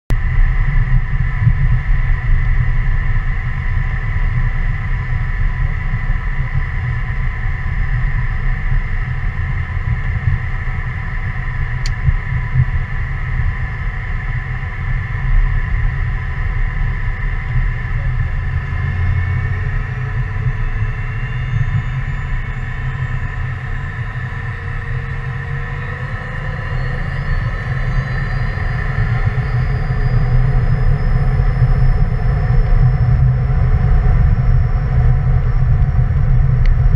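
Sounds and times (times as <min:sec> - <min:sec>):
jet engines rumbling and whining: 0:00.1 - 0:36.9.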